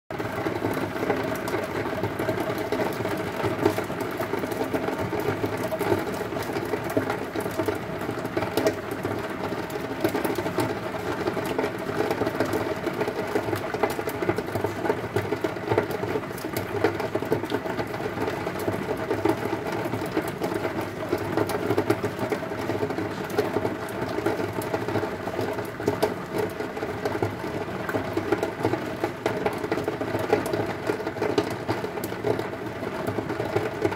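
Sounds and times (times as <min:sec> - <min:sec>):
heavy rain on a window: 0:00.1 - 0:33.9.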